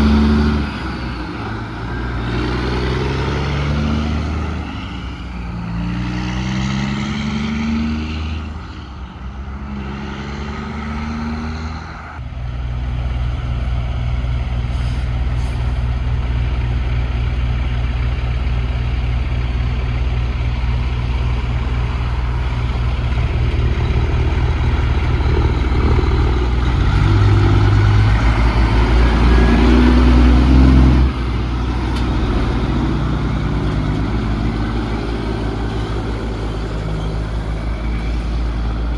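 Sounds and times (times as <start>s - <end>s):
truck engine accelerating: 0.0s - 38.9s.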